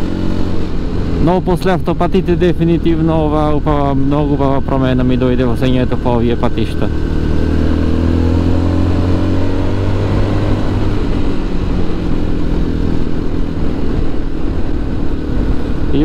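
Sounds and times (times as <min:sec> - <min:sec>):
motorcycle engine running: 0:00.0 - 0:16.0
steady rushing noise: 0:00.0 - 0:16.0.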